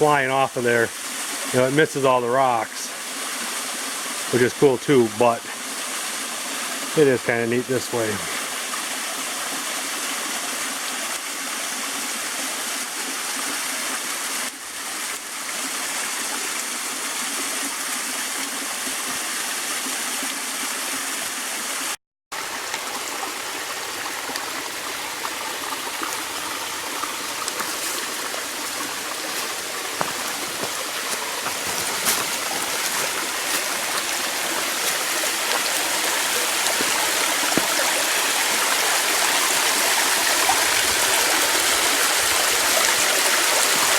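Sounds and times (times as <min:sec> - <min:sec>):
small waterfall splashing over rock: 0:00.0 - 0:01.8, 0:03.0 - 0:04.6, 0:07.9 - 0:43.9.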